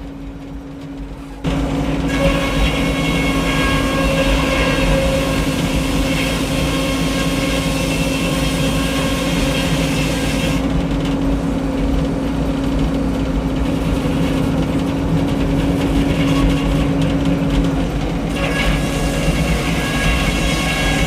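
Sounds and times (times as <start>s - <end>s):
sawmill drone: 0.0s - 21.0s.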